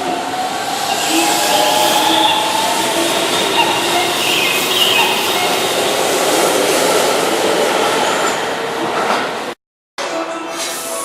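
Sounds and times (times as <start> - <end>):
train wheels on rails: 0.0 - 9.6.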